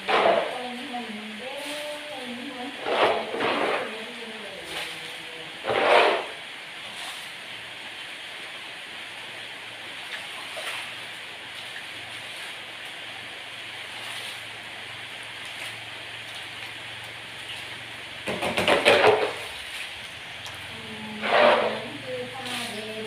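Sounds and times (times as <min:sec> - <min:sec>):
water sloshing: 0:00.0 - 0:07.9, 0:09.8 - 0:23.0.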